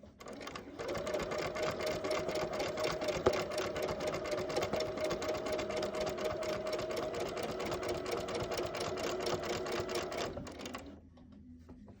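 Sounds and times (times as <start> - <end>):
sewing machine stitching fast: 0.2 - 10.9.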